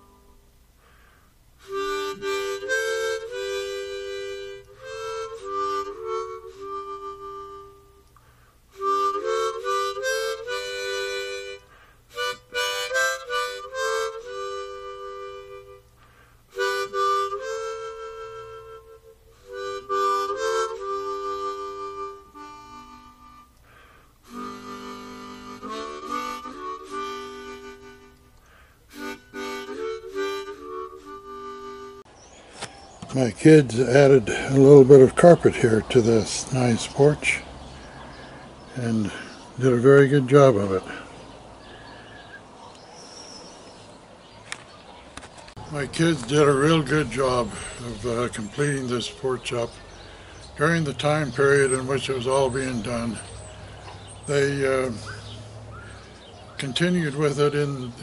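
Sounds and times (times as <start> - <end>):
harmonica chords: 0.0 - 43.7, 45.5 - 58.0.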